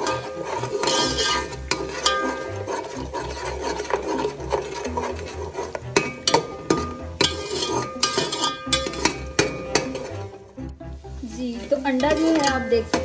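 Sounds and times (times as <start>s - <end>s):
metal spoon scraping pot: 0.0s - 13.0s.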